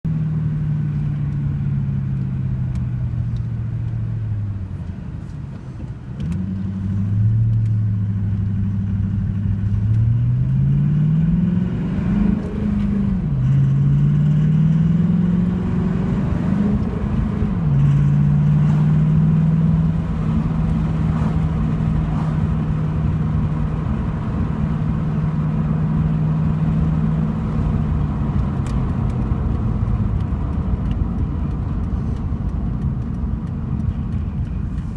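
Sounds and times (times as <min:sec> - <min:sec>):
car engine revving through gears: 0:06.2 - 0:34.9.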